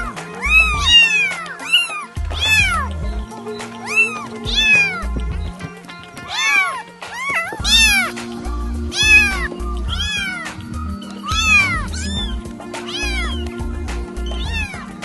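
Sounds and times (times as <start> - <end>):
background music with bass beat: 0.0 - 15.0
kittens meowing: 0.0 - 15.0.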